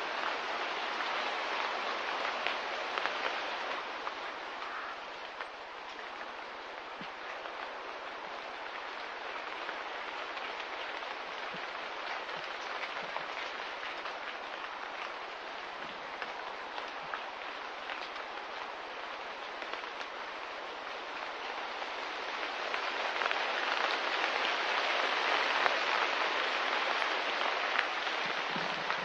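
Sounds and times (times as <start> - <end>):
light rain falling: 0.0 - 29.0.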